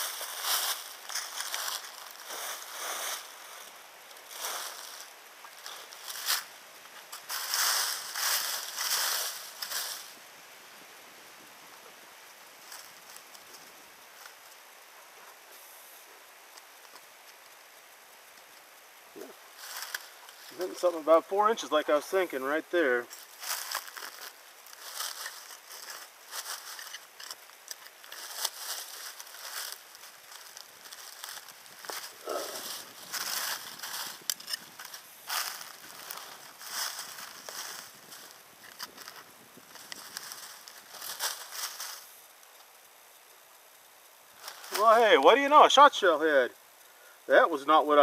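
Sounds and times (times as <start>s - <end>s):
dry leaves rustling and crunching: 0.0s - 10.3s, 12.4s - 15.4s, 16.4s - 46.4s
faint steady hiss: 0.0s - 48.0s.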